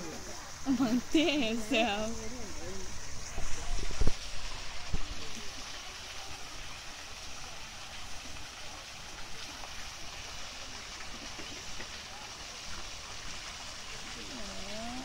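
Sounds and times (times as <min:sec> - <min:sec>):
waterfall pouring into pool: 0:00.0 - 0:15.0.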